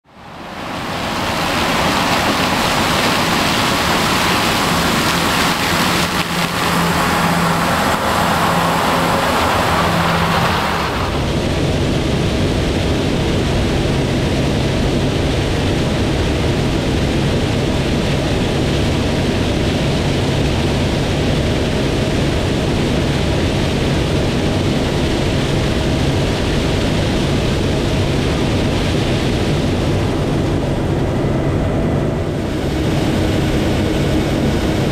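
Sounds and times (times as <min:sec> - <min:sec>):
engine drone: 0:00.0 - 0:34.9
combine harvester machinery: 0:00.1 - 0:34.9.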